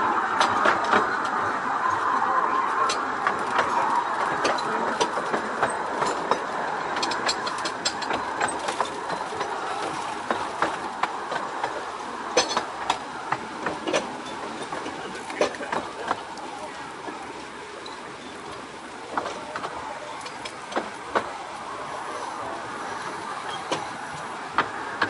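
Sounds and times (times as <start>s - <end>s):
miniature train rumbling on track: 0.0s - 25.0s
wheels clacking on rails: 0.0s - 25.0s.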